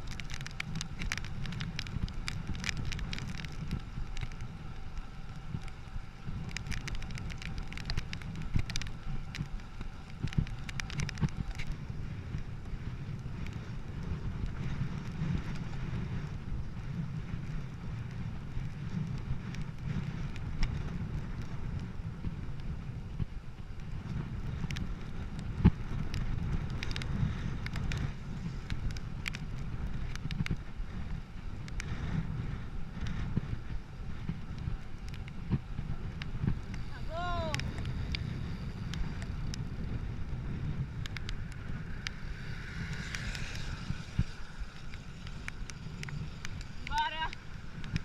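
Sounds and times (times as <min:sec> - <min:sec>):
bicycle clicks and knocks: 0:00.0 - 0:48.0
wind buffeting microphone: 0:00.0 - 0:48.0.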